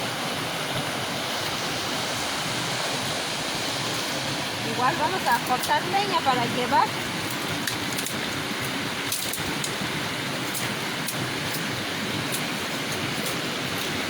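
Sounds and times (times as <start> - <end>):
river water running: 0.0 - 14.0.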